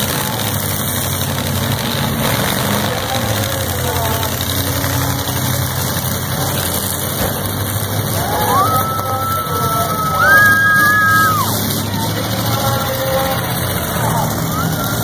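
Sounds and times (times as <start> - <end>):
car engines idling together: 0.0 - 15.0.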